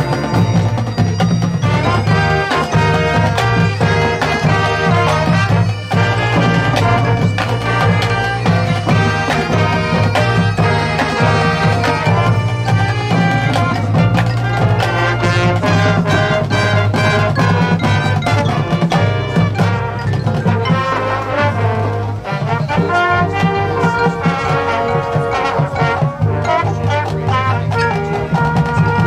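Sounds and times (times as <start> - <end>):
brass trombones and trumpets: 0.0 - 29.0
marching drums and percussion: 0.0 - 29.0.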